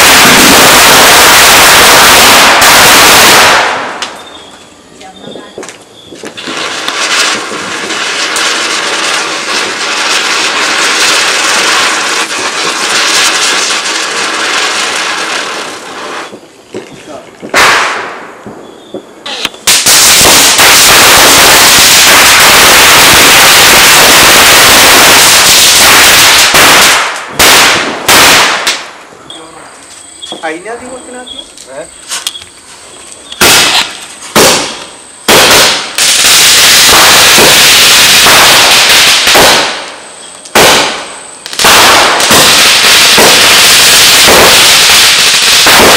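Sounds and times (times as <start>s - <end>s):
loud firecracker bangs: 0.0s - 4.5s, 5.2s - 29.1s, 33.4s - 45.9s
firecracker fizzing and crackling: 0.0s - 45.9s.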